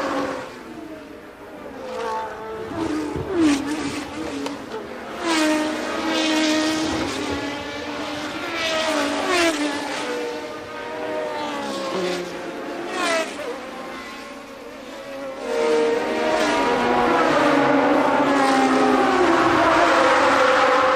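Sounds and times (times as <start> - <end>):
racing cars passing: 0.0 - 20.9.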